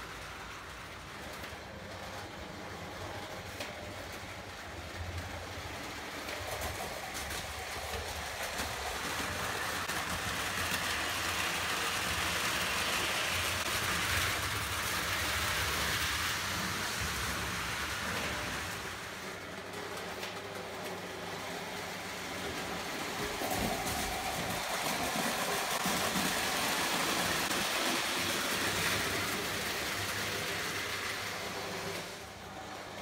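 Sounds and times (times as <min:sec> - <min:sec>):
toy electric trains rumbling: 0:00.0 - 0:33.0.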